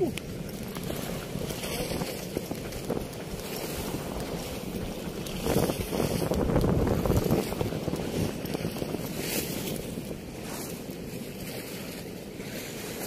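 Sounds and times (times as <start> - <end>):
water rushing at sluice gate: 0.0 - 13.0
wind buffeting microphone: 0.0 - 13.0.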